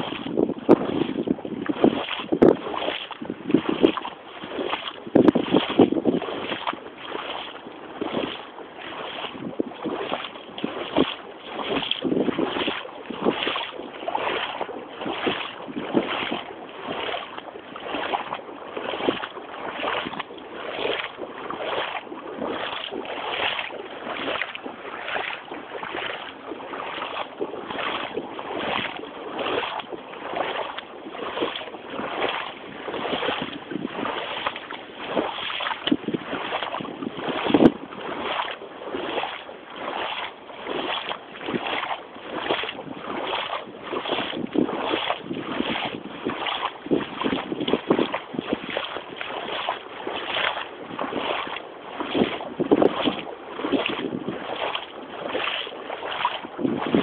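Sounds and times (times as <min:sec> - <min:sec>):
boots splashing through water: 0:00.0 - 0:57.0
sharp splash or knock: 0:00.0 - 0:57.0.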